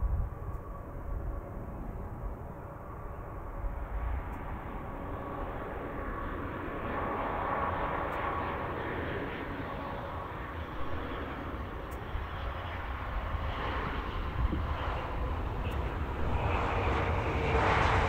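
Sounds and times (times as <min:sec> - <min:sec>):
jet airliner engines whining: 0:00.0 - 0:18.0.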